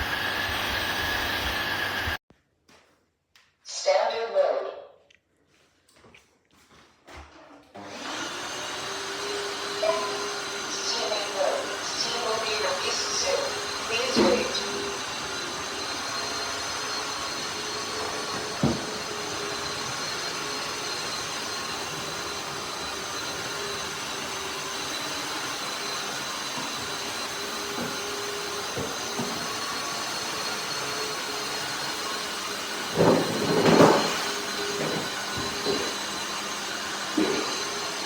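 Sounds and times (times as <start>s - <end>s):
floor vacuum running with whine: 0.0s - 2.2s, 7.7s - 38.0s.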